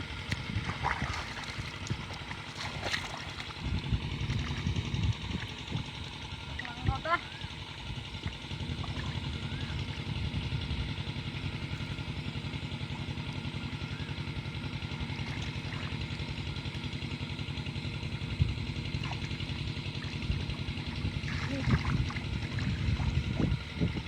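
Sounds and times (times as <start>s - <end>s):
small engine puttering: 0.0s - 24.0s.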